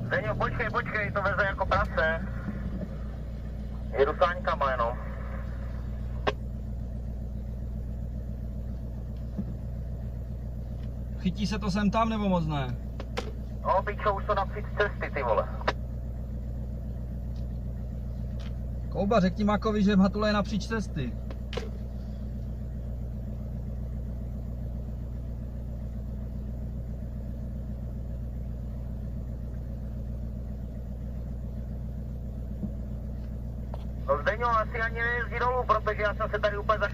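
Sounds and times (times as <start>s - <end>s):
vehicle engine at low revs: 0.0s - 36.9s.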